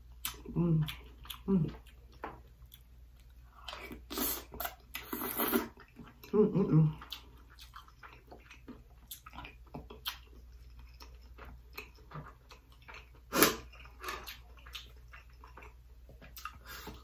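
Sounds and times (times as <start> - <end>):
wet chewing and lip-smacking: 0.1 - 17.0.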